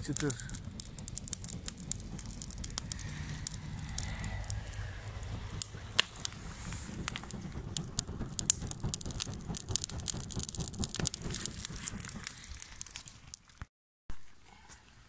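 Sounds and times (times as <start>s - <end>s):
low rush of air: 0.0s - 13.4s
charcoal fire crackling and popping: 0.0s - 14.2s.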